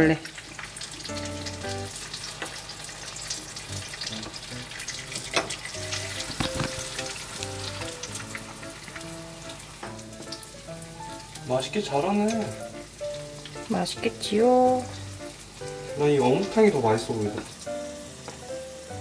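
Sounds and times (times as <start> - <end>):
food frying sizzle: 0.0 - 19.0
plucked background music: 1.1 - 2.1, 3.7 - 19.0.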